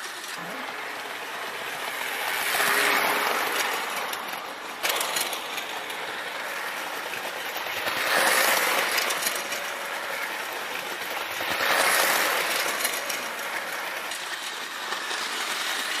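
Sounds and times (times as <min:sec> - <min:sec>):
toy train rattling on track: 0:00.0 - 0:16.0.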